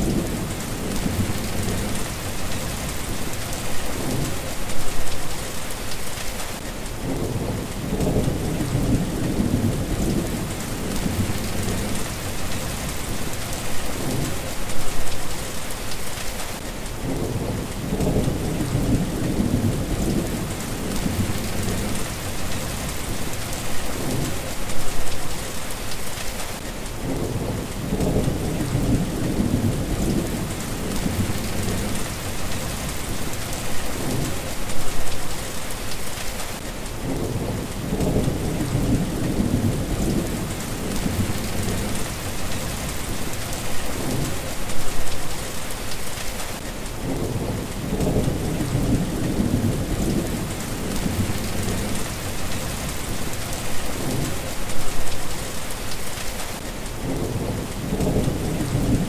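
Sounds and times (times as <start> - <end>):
thunder rumbling: 0.0 - 5.0, 7.0 - 15.1, 17.0 - 25.1, 27.0 - 35.2, 37.0 - 45.2, 47.0 - 55.2, 57.0 - 59.0
steady rain falling: 0.0 - 59.0.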